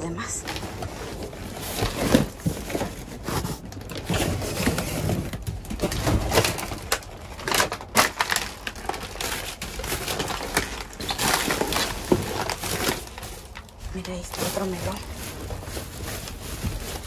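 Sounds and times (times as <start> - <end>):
plastic bags and cardboard rustling: 0.0 - 17.0.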